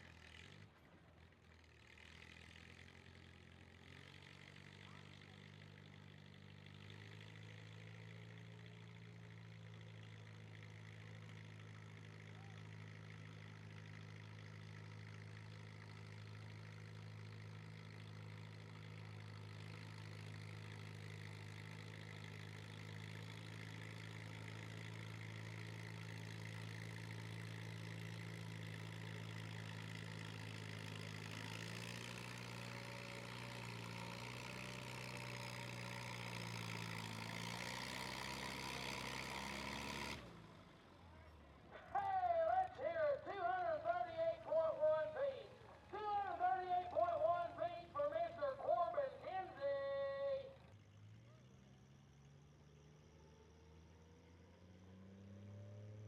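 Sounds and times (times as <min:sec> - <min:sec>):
vehicle engine idling: 0:00.0 - 0:55.8.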